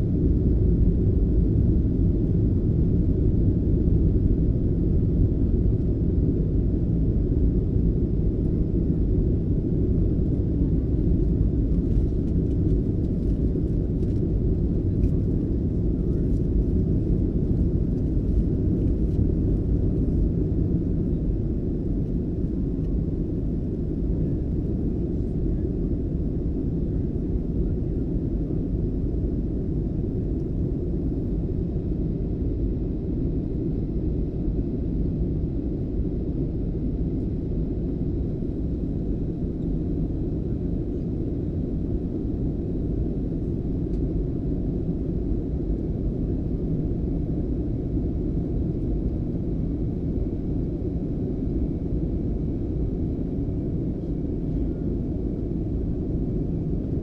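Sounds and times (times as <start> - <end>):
airplane rumble: 0.0 - 57.0.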